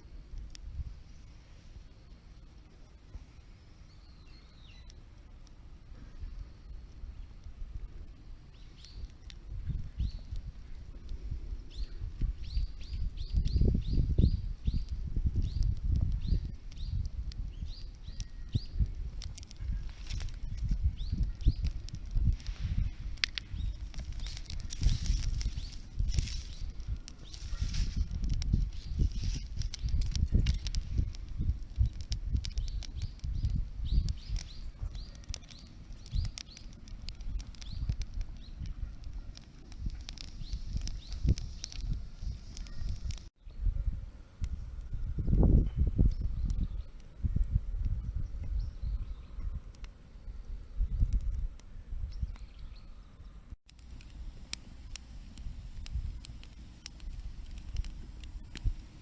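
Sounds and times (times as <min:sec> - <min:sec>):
wind rumble on microphone: 0:00.0 - 0:02.5, 0:05.8 - 0:59.0
wood fire crackling: 0:00.0 - 0:43.4, 0:49.5 - 0:52.6, 0:53.7 - 0:59.0.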